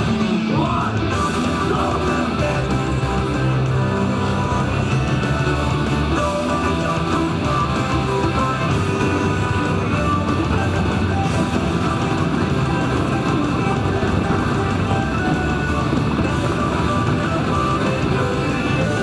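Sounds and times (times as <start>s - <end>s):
loud rock music with guitar: 0.0s - 19.0s.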